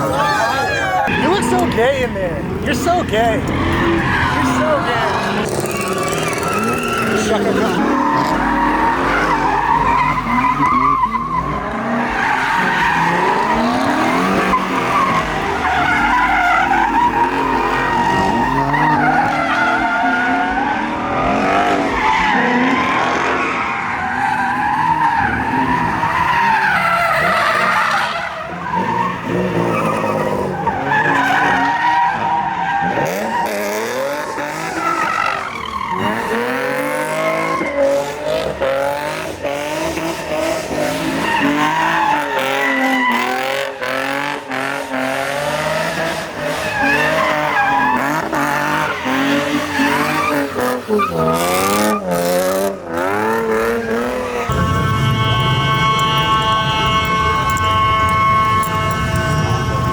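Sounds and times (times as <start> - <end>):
car tyres squealing: 0.0 - 59.9
engines revving: 0.0 - 59.9.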